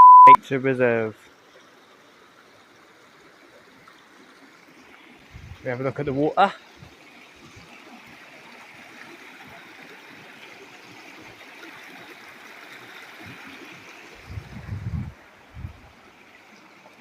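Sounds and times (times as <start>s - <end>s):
river water rushing: 1.3s - 17.0s.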